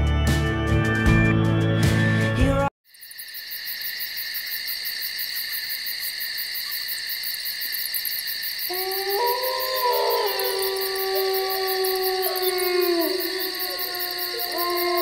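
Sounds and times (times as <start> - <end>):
insect chorus chirring: 2.8 - 15.0.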